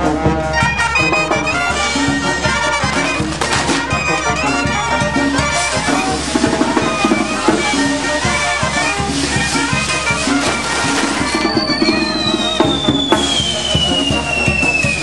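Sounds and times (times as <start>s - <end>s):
brass band playing lively tune: 0.0s - 15.0s
steady drum beat: 0.0s - 15.0s.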